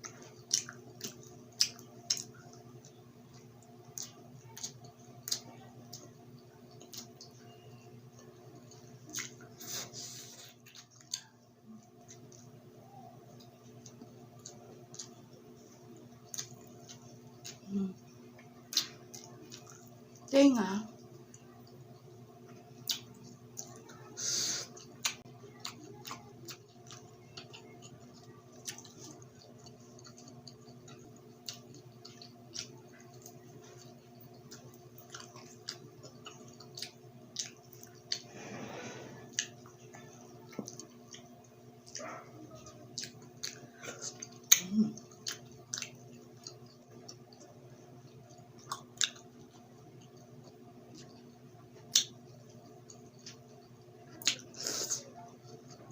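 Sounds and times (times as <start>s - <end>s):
chewing crunchy food: 0.0s - 55.9s.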